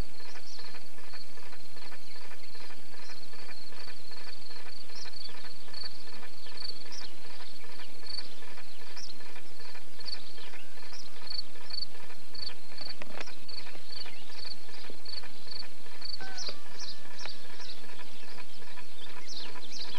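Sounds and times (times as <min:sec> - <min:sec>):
cricket chirping: 0:00.0 - 0:19.9.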